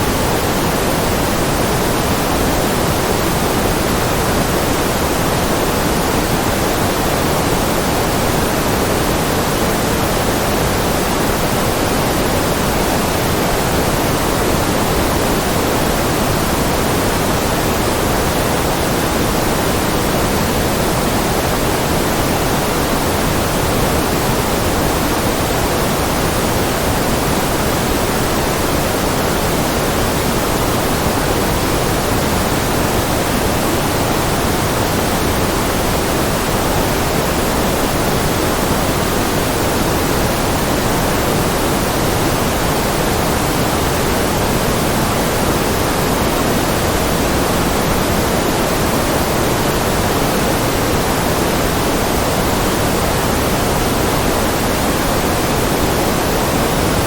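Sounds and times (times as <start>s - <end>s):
generated noise hiss: 0.0s - 57.0s.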